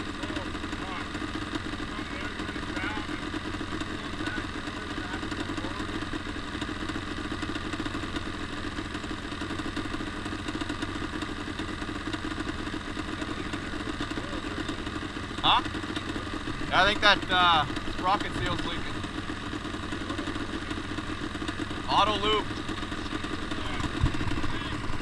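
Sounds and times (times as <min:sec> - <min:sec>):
two-stroke engine idling: 0:00.0 - 0:25.0.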